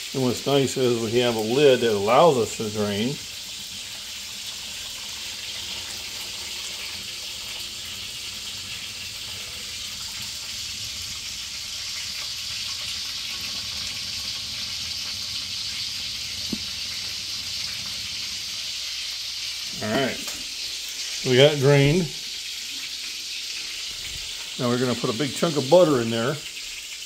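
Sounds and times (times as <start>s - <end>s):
hot water pouring into sink: 0.0s - 27.0s.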